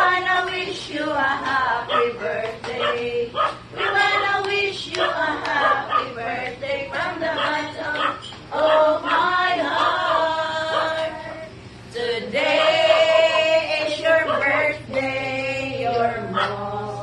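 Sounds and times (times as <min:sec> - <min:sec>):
group of women singing: 0:00.0 - 0:17.0.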